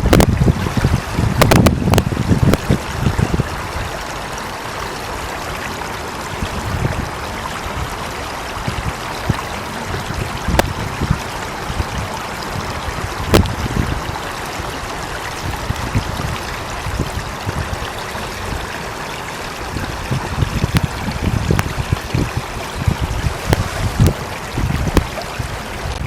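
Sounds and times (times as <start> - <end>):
stream babbling: 0.0 - 26.0
water splashes: 0.0 - 26.0.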